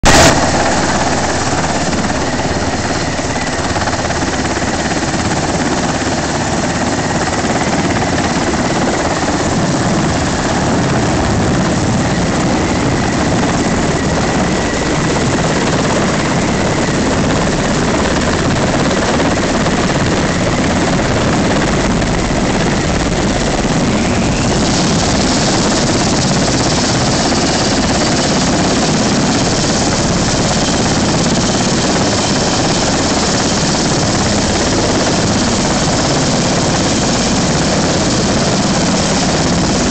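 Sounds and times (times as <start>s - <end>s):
helicopter rotor and engines: 0.0s - 39.9s.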